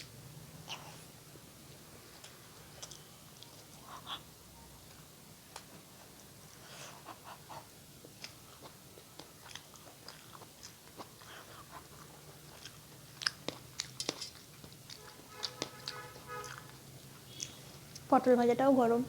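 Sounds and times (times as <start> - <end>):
person chewing food: 0.0 - 4.3, 7.1 - 18.1.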